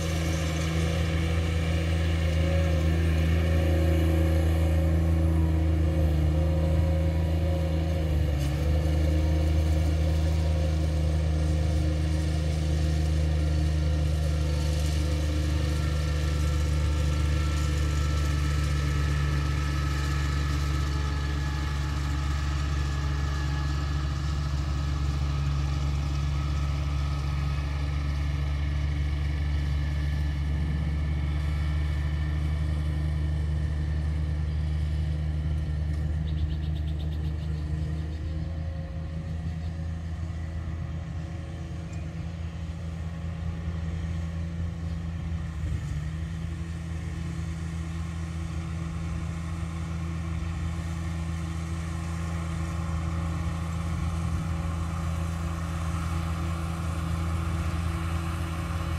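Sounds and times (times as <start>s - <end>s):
riding lawn mower engine: 0.0s - 58.9s.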